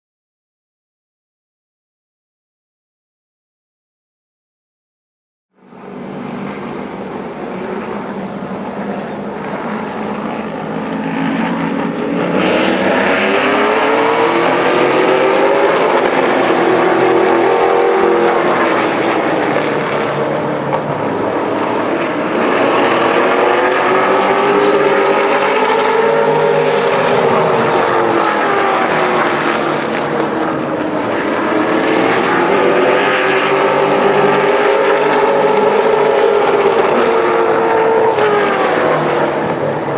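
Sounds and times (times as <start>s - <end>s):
race car engines passing: 5.6s - 39.9s.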